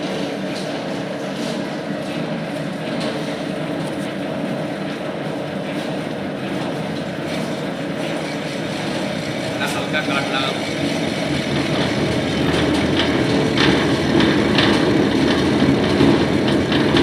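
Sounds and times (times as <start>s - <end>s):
lathe motor and gears humming: 0.0s - 17.0s.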